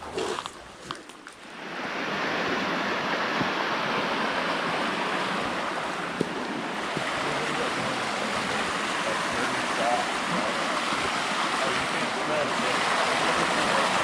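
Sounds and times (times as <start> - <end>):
river water over rocks: 0.0 - 14.0.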